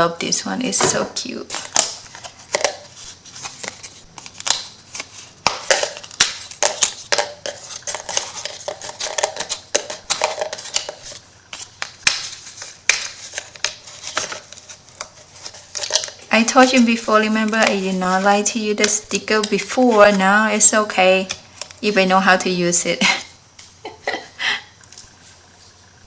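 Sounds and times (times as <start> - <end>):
paper and plastic sheets rustling: 0.8 - 22.2.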